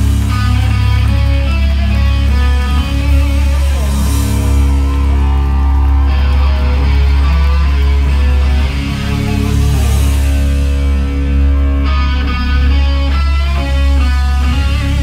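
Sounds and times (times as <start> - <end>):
live hard rock band: 0.0 - 15.0.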